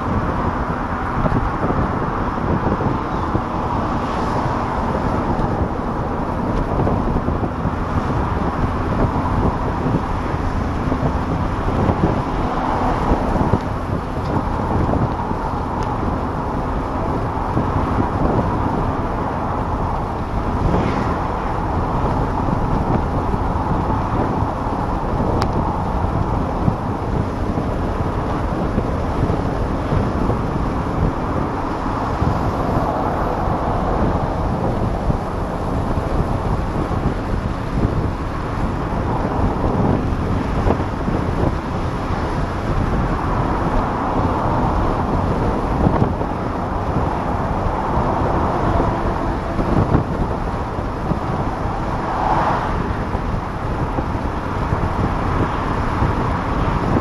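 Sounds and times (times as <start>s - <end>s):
road and engine noise: 0.0s - 57.0s
wind rushing over open car: 0.0s - 57.0s.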